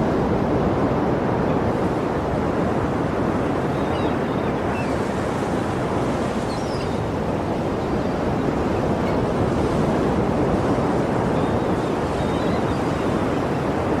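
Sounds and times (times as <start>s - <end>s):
sea surf rushing: 0.0s - 14.0s.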